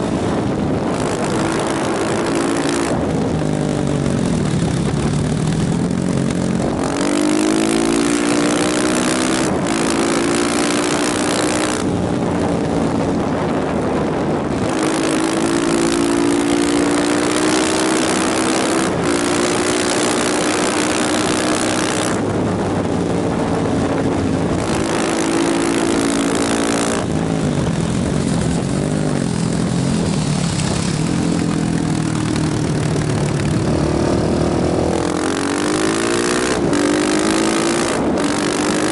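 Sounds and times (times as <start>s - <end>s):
motorcycle engine accelerating: 0.0s - 38.9s
rushing wind noise: 0.0s - 38.9s.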